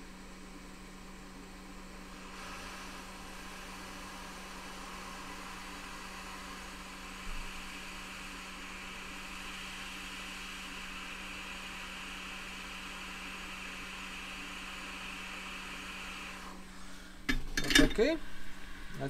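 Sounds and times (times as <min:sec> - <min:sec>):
steady hiss: 0:02.1 - 0:19.0.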